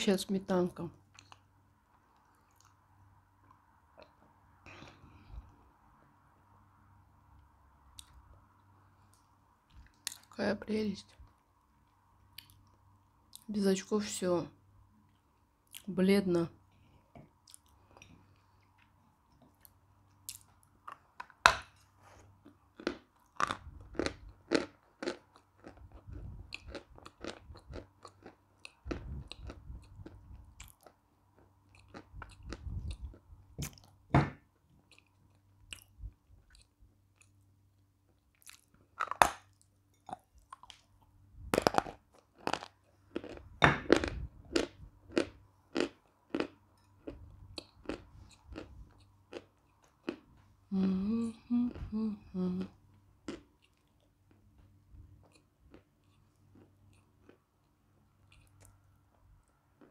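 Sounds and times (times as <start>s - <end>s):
faint steady hum: 0.0s - 59.9s
soft chewing: 0.9s - 5.8s, 7.3s - 10.4s, 11.0s - 13.5s, 14.9s - 15.9s, 16.6s - 59.9s.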